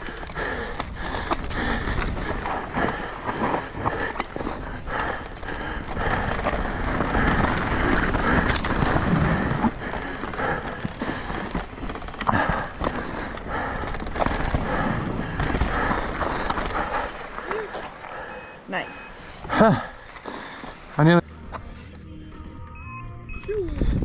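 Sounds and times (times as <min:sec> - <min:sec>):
tyres over gravel and rocks: 0:00.0 - 0:21.8.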